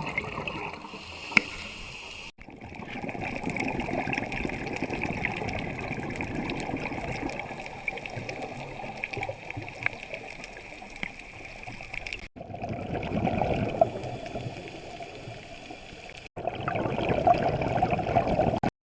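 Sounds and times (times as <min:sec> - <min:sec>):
underwater bubbling and gurgling: 0:00.0 - 0:18.7.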